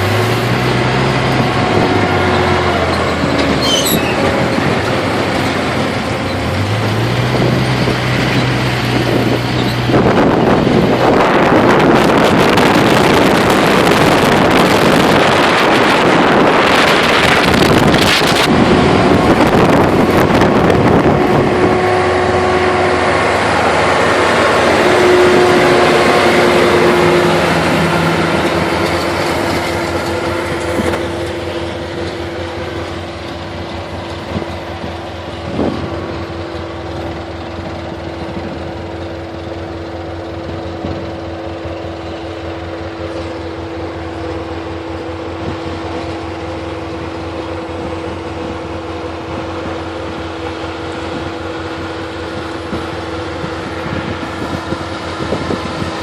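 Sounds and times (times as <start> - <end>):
baler whine: 0.0 - 56.0
tractor diesel engine running: 0.0 - 56.0.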